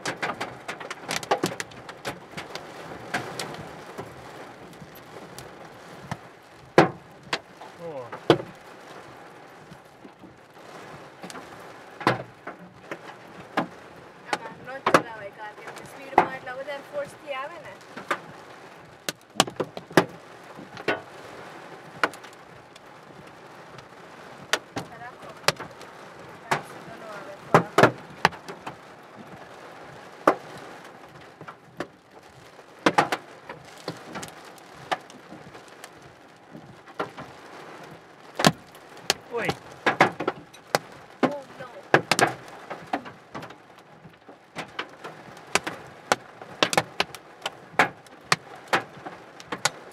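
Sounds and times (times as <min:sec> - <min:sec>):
hail and rain pelting a car: 0:00.0 - 0:49.9
hailstones hitting car: 0:00.0 - 0:49.9.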